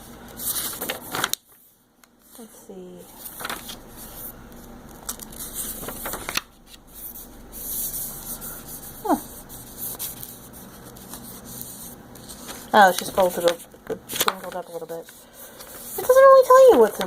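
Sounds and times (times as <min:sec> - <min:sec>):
paper rustling and crinkling: 0:00.0 - 0:02.5, 0:03.1 - 0:17.0.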